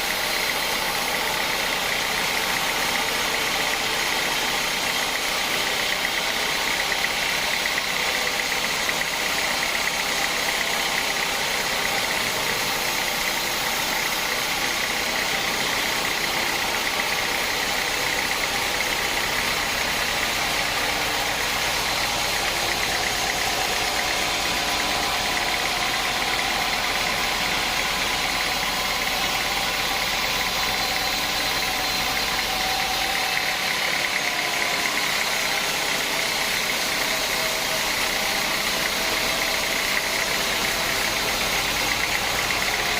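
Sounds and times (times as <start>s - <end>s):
high machine whine: 0.0s - 42.9s
sawmill machinery drone: 0.0s - 42.9s.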